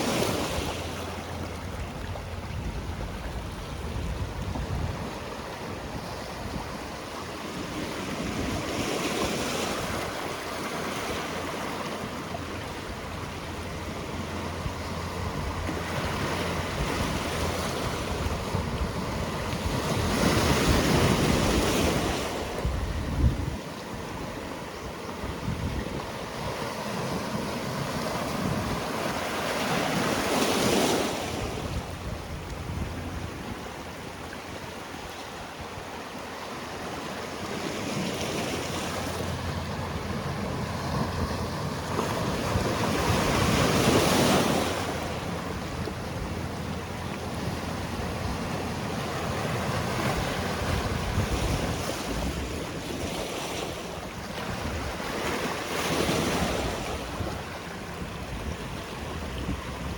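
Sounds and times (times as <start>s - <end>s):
wind on microphone: 0.0s - 36.3s, 37.4s - 59.9s
waves breaking on rocks: 0.0s - 59.9s.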